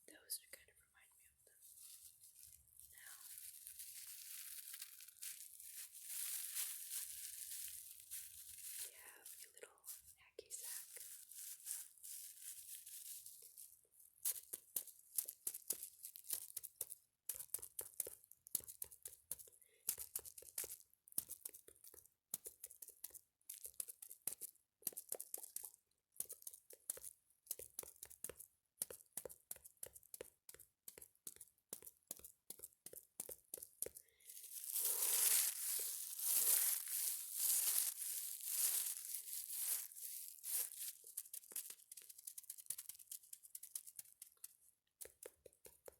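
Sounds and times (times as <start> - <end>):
crisp crackling and crinkling: 1.0 - 45.9.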